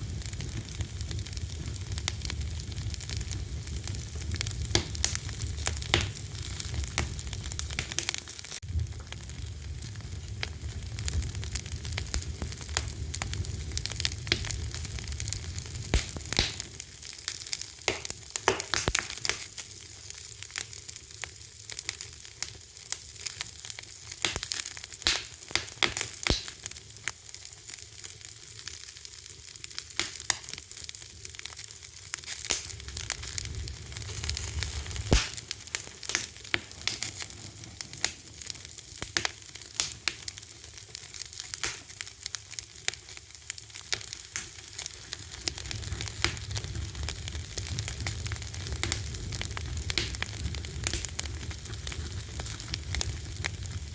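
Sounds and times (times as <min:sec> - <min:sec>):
fire crackling and popping: 0:00.0 - 0:53.9
sharp loud snaps of fire: 0:00.0 - 0:53.9.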